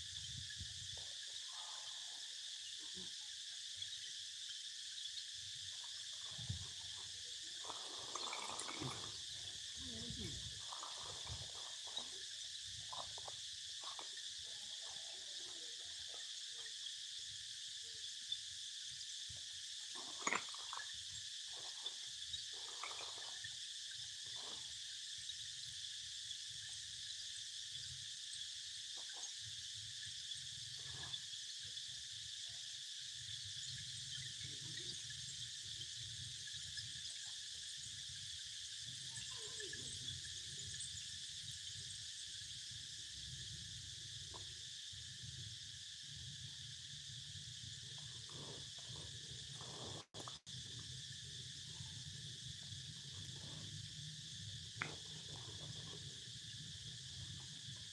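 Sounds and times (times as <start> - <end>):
insects droning: 0.0 - 57.9.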